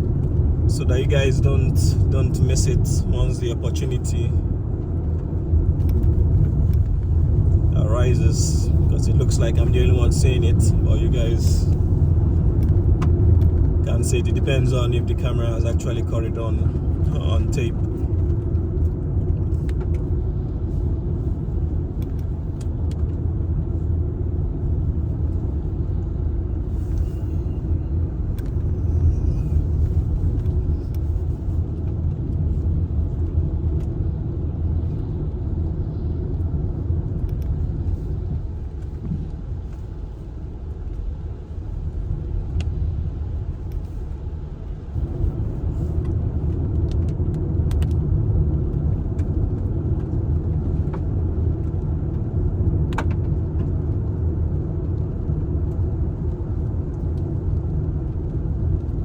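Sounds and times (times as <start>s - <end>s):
car driving heard from inside: 0.0s - 59.0s.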